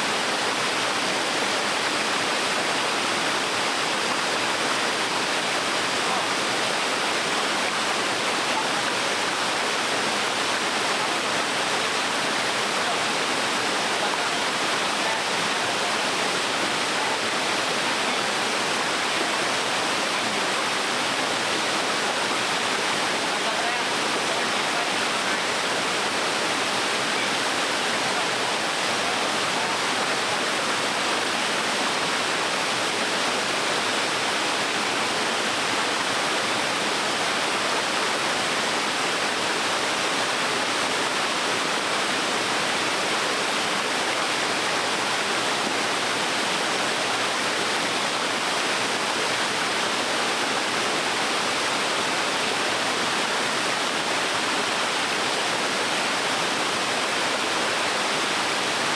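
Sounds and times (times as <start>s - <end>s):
small waterfall rushing: 0.0s - 58.9s.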